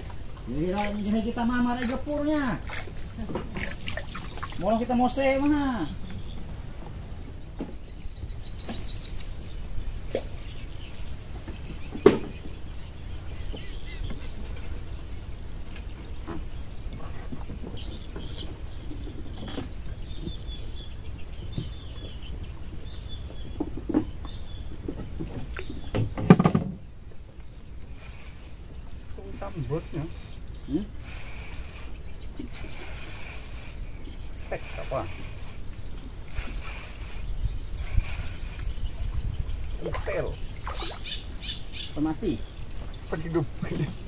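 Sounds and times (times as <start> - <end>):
low rumble of wind: 0.0 - 44.0
faint bird chirps: 7.7 - 44.0.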